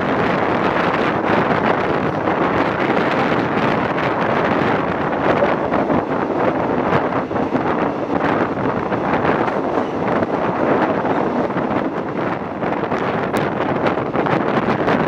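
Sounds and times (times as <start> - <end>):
moving train running noise: 0.0 - 15.0
wind rushing over microphone: 0.0 - 15.0.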